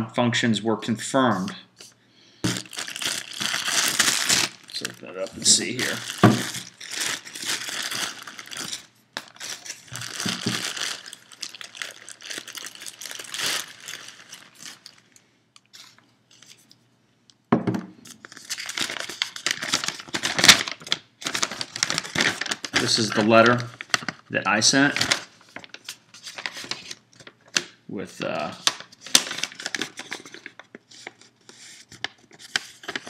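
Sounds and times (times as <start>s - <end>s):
packaging crinkling and rustling: 2.4s - 16.8s, 18.0s - 27.7s, 28.3s - 33.0s.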